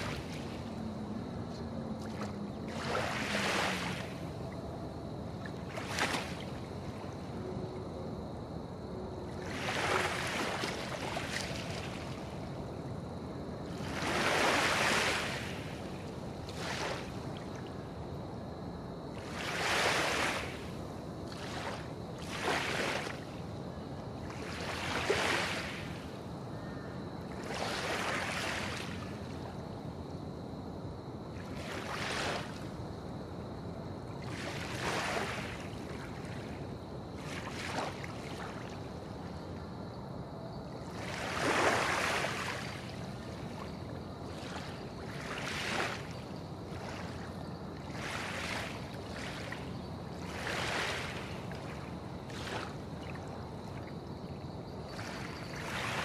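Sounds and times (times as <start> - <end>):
waves lapping: 0.0 - 7.4, 9.3 - 18.1, 19.1 - 29.6, 31.2 - 33.0, 34.0 - 39.8, 40.8 - 56.0.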